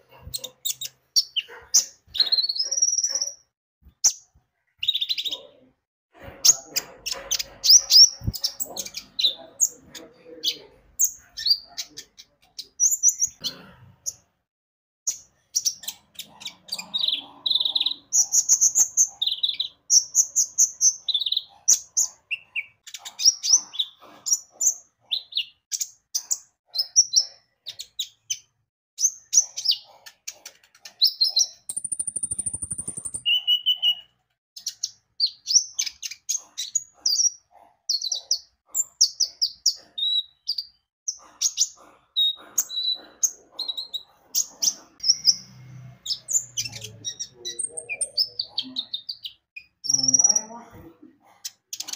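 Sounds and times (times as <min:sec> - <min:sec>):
bird chirping and twittering: 0:00.0 - 0:14.3, 0:15.1 - 0:51.9.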